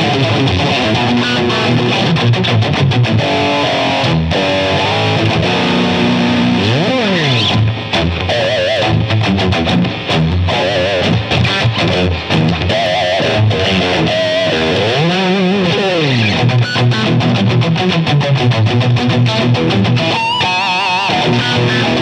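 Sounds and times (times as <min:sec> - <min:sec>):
distorted electric guitar lead: 0:00.0 - 0:22.0.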